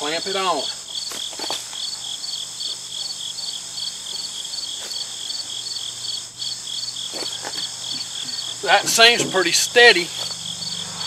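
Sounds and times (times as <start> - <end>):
crickets chirping: 0.0 - 11.0
high insect hiss: 0.0 - 11.0.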